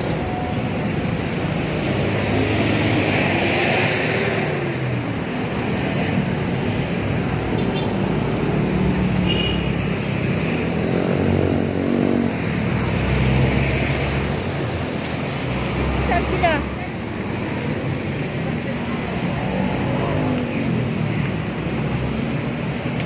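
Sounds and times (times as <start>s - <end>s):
road noise rumble: 0.0s - 23.0s
vehicle engines passing: 0.0s - 23.0s.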